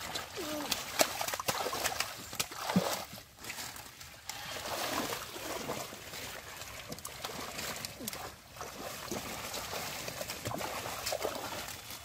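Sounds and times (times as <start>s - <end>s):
splashing in muddy water: 0.0s - 12.0s.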